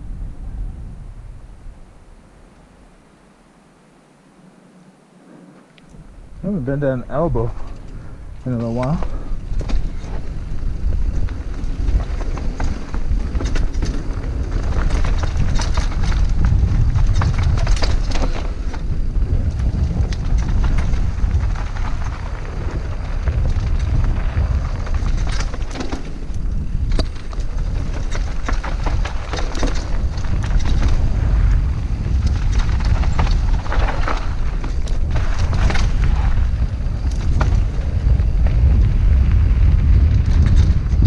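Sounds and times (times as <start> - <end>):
wind buffeting microphone: 0.0 - 3.0, 5.4 - 41.0
bike clicks and rattles: 7.4 - 41.0.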